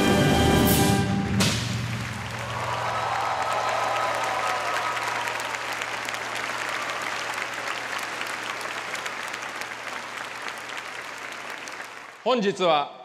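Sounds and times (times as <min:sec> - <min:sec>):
audience applauding: 0:01.7 - 0:12.8.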